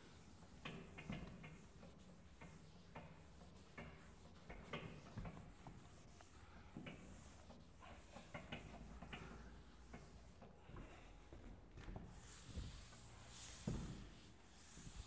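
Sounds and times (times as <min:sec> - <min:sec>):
eraser scraping chalkboard: 0:00.0 - 0:10.5, 0:12.1 - 0:15.0.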